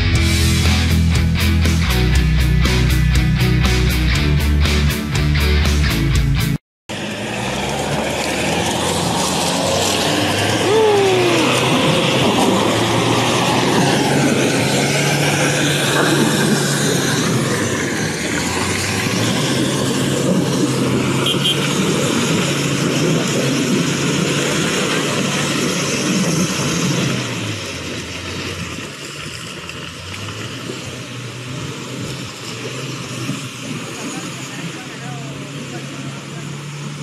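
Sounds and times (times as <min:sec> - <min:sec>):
pickup engine revving: 0:06.9 - 0:37.0.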